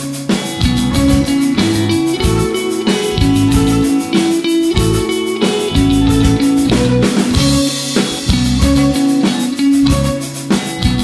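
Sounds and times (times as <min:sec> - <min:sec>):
rock band music: 0:00.0 - 0:11.0.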